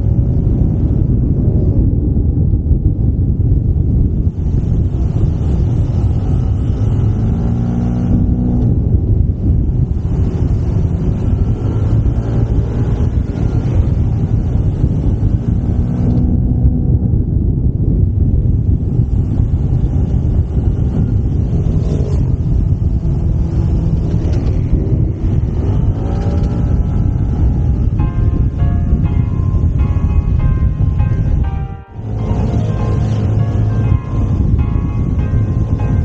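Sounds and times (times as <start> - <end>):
wind rumble on microphone: 0.0 - 36.0
scooter engine running: 3.4 - 16.6, 18.1 - 36.0.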